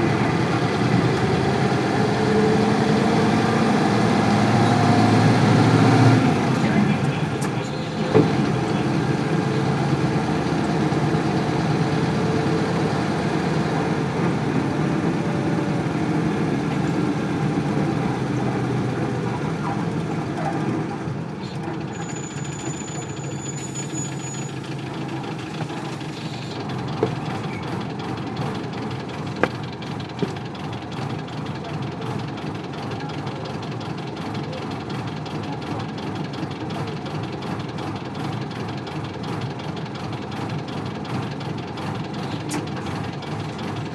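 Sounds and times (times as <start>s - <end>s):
diesel bus engine idling: 0.0s - 43.9s.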